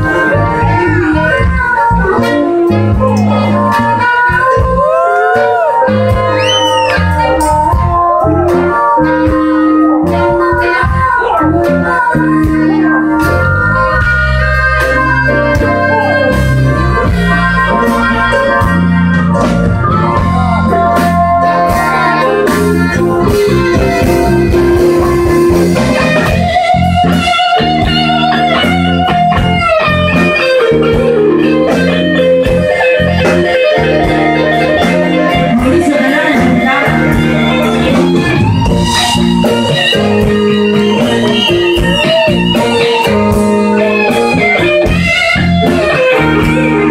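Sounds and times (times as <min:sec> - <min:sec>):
electric blues band playing: 0:00.0 - 0:46.9
electric guitar bent notes: 0:00.0 - 0:46.9
harmonica: 0:00.0 - 0:46.9.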